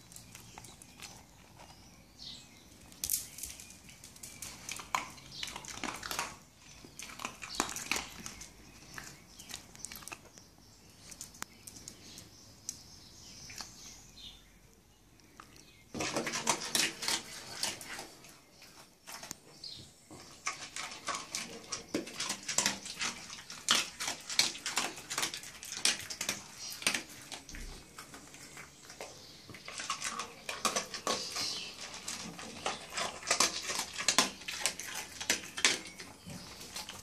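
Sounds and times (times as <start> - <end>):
dog crunching dry kibble: 0.0 - 12.9, 15.2 - 37.0.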